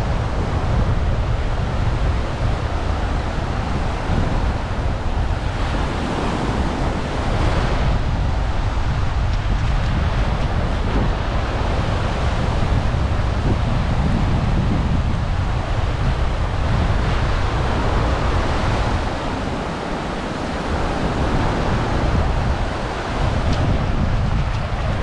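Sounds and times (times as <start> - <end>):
small waves breaking on sand: 0.0 - 25.0
wind buffeting microphone: 0.0 - 25.0.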